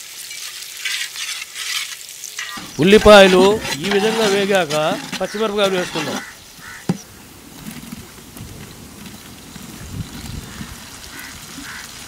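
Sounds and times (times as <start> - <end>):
onions sizzling in hot oil: 0.0 - 7.5, 8.2 - 12.0.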